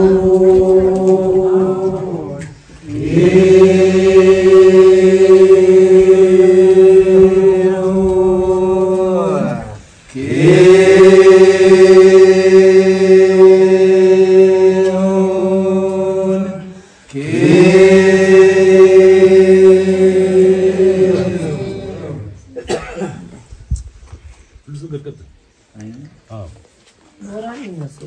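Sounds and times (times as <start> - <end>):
voices chanting a droning note: 0.0 - 22.8.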